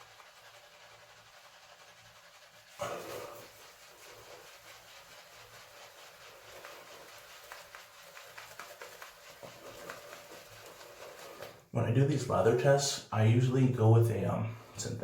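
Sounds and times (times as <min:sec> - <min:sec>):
shaving brush squishing lather: 0:00.0 - 0:15.0.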